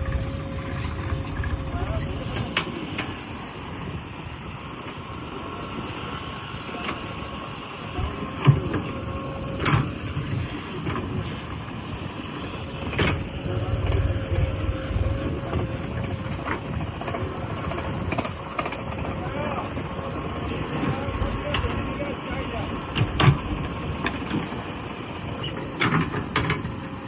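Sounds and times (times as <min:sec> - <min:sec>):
diesel machinery rumbling: 0:00.0 - 0:27.0
steady whine: 0:00.0 - 0:27.0.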